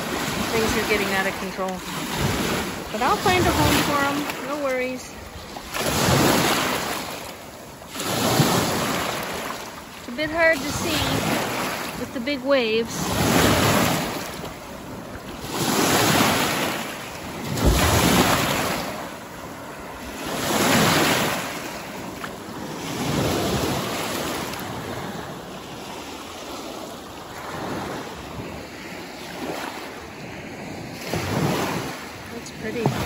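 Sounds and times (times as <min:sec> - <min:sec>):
waves washing over pebbles: 0:00.0 - 0:33.0.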